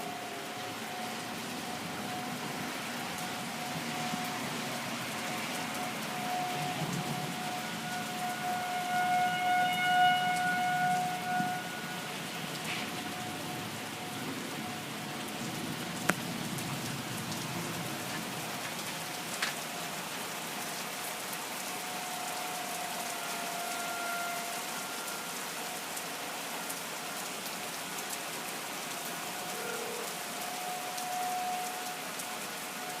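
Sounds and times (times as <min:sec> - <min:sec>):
steady rain: 0:00.0 - 0:33.0
warning siren wailing: 0:00.0 - 0:33.0.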